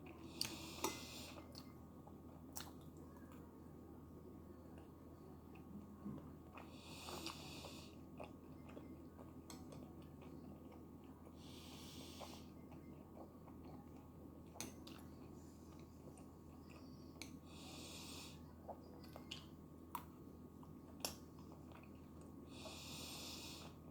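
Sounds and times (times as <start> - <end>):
soft close chewing: 0.0 - 23.9.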